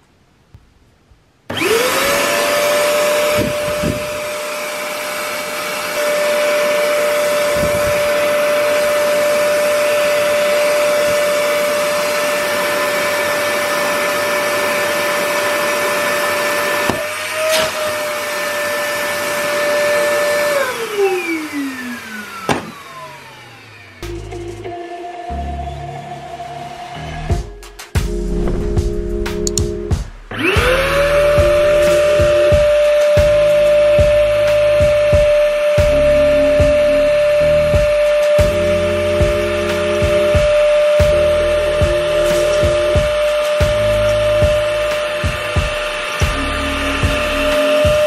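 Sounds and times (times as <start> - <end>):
vacuum cleaner motor whining: 1.5 - 27.1, 30.3 - 48.0.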